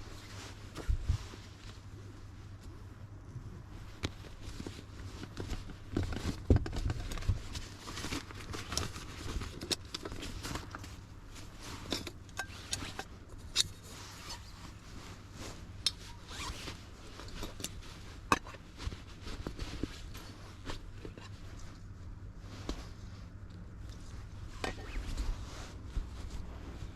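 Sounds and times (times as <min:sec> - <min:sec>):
gear rustling and clicking: 0:03.8 - 0:26.9.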